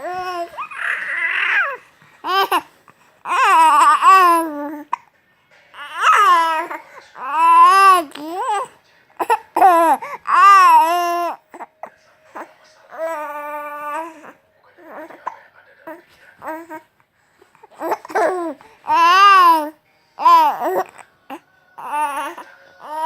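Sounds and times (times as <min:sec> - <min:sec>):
baby babbling: 0:00.0 - 0:05.0, 0:05.8 - 0:11.7, 0:12.3 - 0:16.9, 0:17.6 - 0:23.0.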